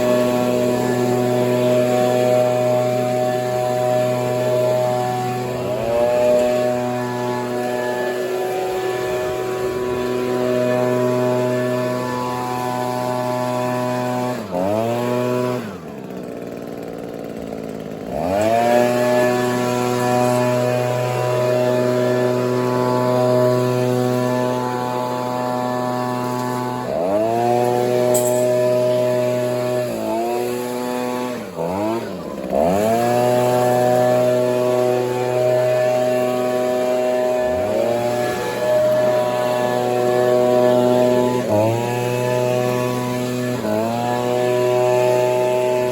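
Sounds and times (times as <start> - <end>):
leaf blower engine: 0.0 - 45.9.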